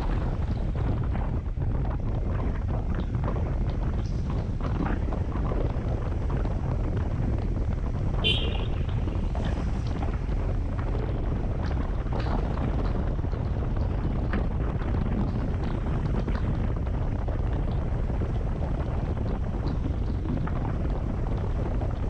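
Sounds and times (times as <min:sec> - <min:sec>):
motorcycle engine and road rumble: 0:00.0 - 0:22.0
wind buffeting microphone: 0:00.0 - 0:22.0.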